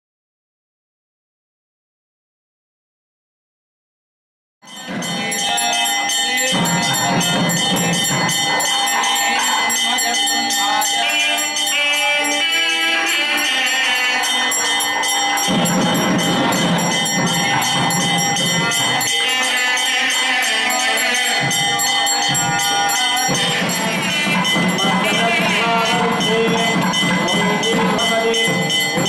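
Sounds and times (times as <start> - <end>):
jingling bells: 4.6 - 29.0.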